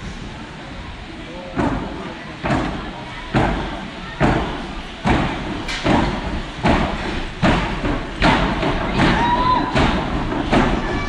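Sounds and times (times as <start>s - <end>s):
drum beating slowly: 0.0s - 11.0s.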